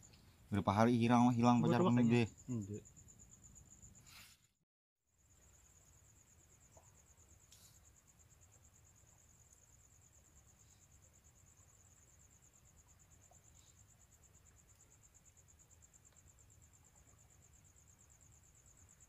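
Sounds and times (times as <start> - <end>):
crickets trilling: 0.0 - 4.4, 5.1 - 19.0.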